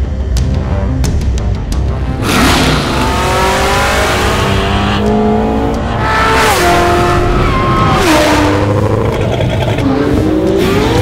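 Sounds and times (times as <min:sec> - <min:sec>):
car engine accelerating: 0:02.0 - 0:11.0.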